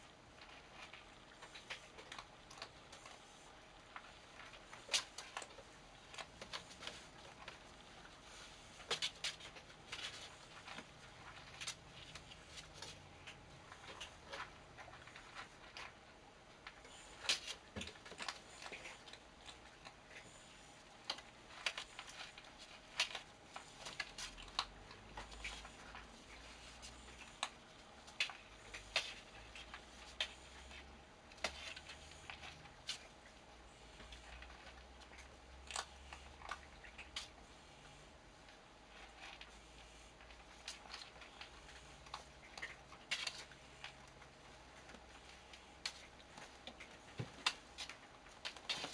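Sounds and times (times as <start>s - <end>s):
faint room hum: 0.0s - 48.9s
cats tapping and scuffling: 0.3s - 48.9s.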